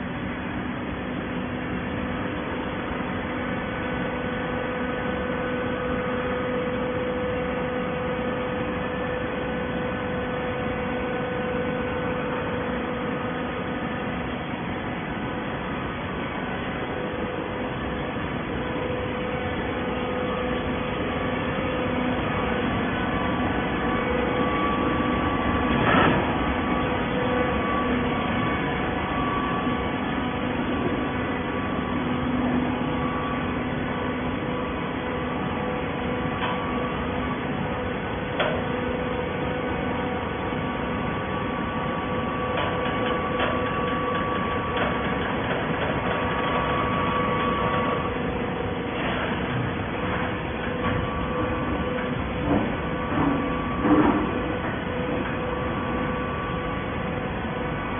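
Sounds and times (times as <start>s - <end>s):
baler motor humming whine: 0.0s - 57.9s.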